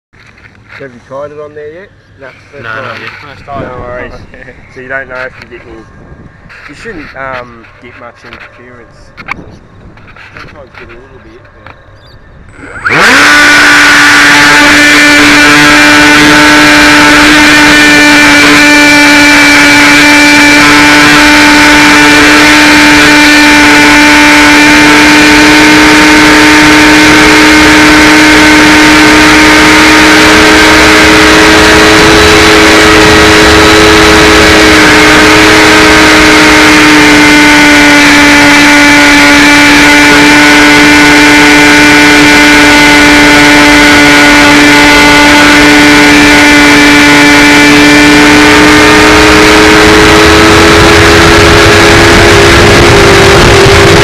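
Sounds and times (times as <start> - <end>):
electric motor and propeller whine: 0.2 - 54.0
wind noise: 2.0 - 19.9, 24.7 - 54.0.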